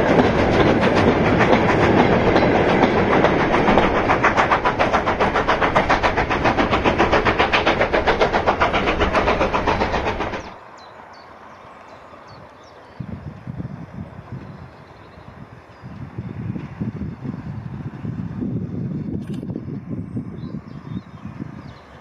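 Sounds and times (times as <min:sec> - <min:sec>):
steam train running past: 0:00.0 - 0:22.0.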